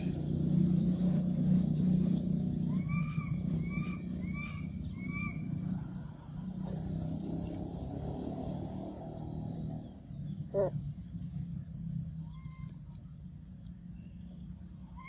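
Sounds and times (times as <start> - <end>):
steady low engine hum: 0.0 - 15.0.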